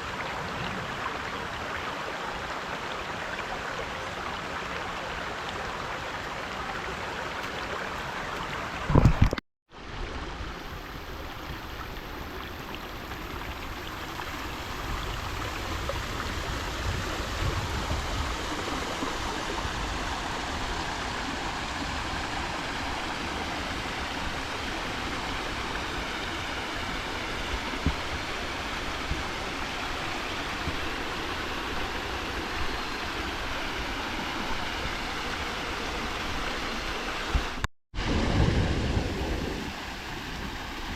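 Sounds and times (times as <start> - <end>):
creek water over rocks: 0.0 - 40.9.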